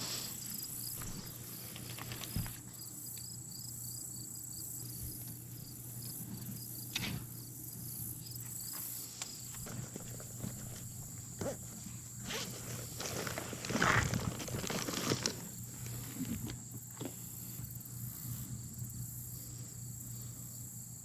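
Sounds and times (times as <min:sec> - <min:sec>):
steady high buzz: 0:00.0 - 0:12.9, 0:15.4 - 0:21.0
insects chirping: 0:00.0 - 0:21.0.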